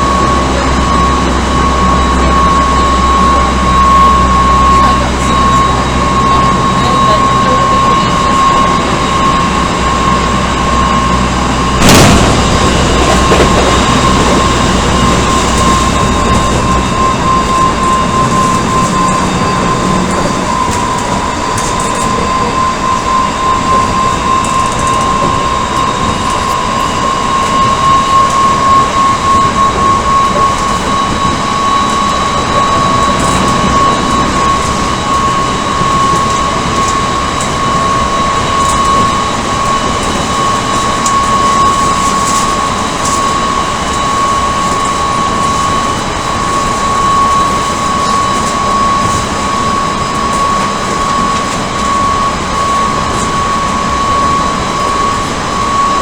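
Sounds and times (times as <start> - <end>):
train traction motor whine: 0.0 - 56.0
wheels rumbling on rail: 0.0 - 56.0.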